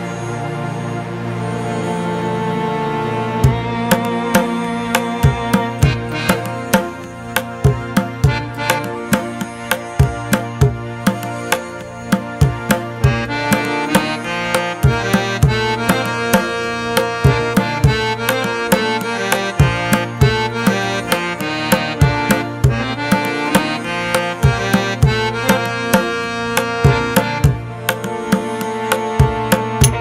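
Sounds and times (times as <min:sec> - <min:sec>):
sustained pitched instruments: 0:00.0 - 0:30.0
steady hand-drum beat: 0:03.4 - 0:30.0.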